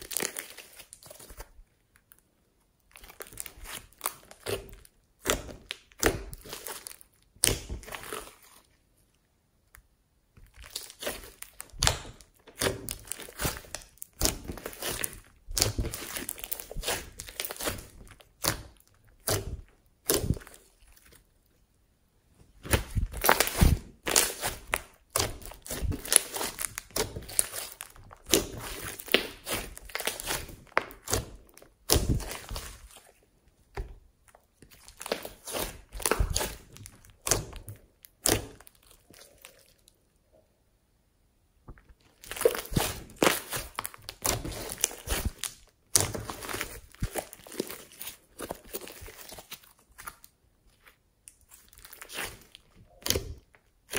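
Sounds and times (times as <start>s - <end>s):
slime crackling and popping: 0.0s - 2.2s, 2.8s - 8.7s, 10.4s - 21.3s, 22.6s - 39.9s, 41.9s - 53.9s.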